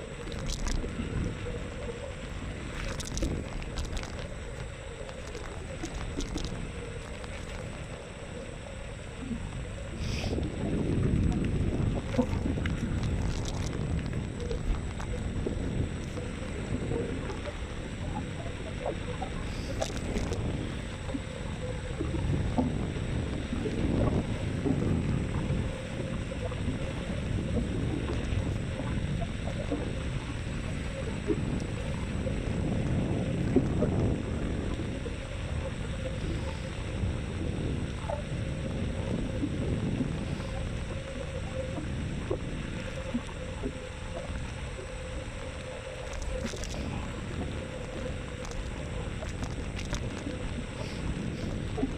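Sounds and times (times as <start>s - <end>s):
faint steady whine: 0.0s - 51.9s
wind buffeting microphone: 9.2s - 45.1s, 46.1s - 51.9s.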